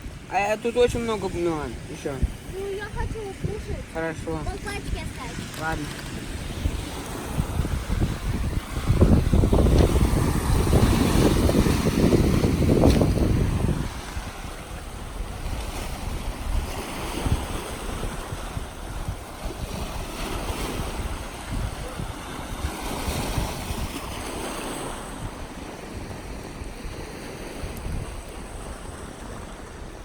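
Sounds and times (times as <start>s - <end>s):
sea waves washing on shore: 0.0s - 30.0s
wind gusting on microphone: 0.0s - 30.0s.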